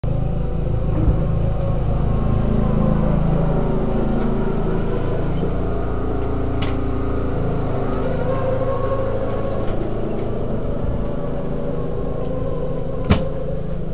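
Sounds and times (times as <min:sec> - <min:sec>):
riding lawn mower engine: 0:00.0 - 0:13.9.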